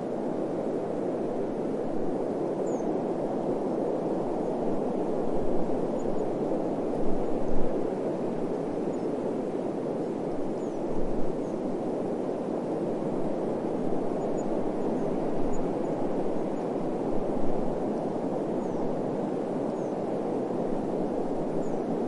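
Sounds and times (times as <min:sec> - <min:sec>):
wind gusts buffeting microphone: 0:00.0 - 0:22.0.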